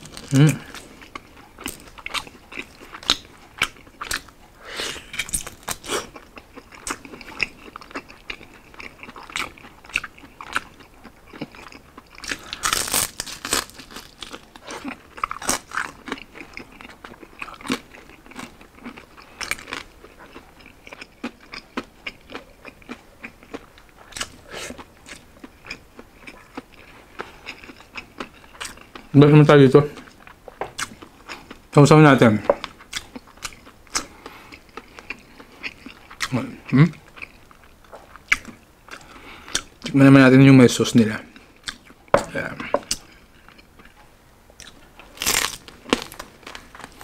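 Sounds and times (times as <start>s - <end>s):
crunchy chewing of crispy pork: 0.0s - 40.0s, 41.2s - 47.0s.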